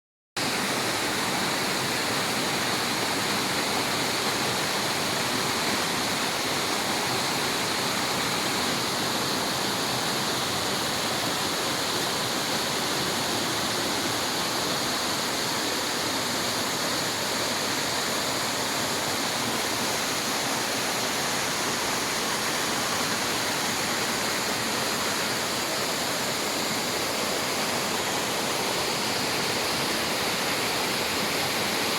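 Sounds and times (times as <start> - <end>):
waterfall pouring and splashing: 0.4 - 31.9.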